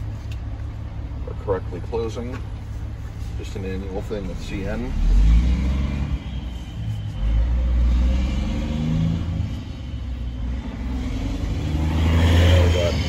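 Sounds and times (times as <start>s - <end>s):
passing vehicle engines: 0.0s - 13.0s.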